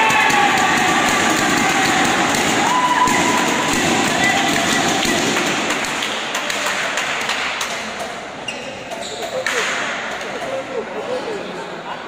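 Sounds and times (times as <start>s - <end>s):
crowd talking in echoing hall: 0.0s - 12.0s.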